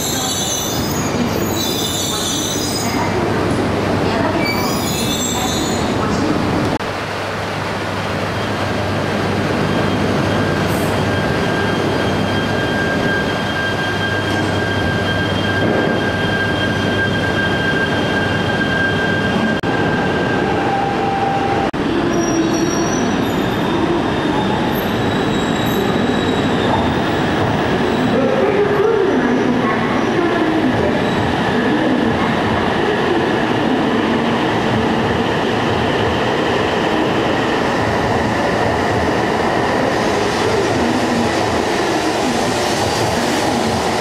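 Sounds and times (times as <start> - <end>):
train running noise: 0.0 - 44.0.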